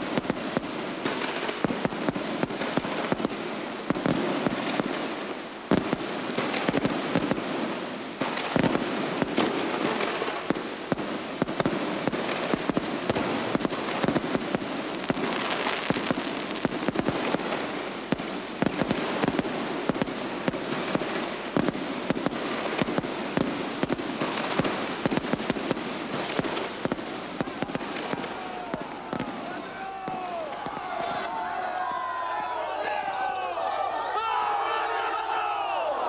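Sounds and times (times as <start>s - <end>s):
fireworks bangs and crackles: 0.0s - 34.2s.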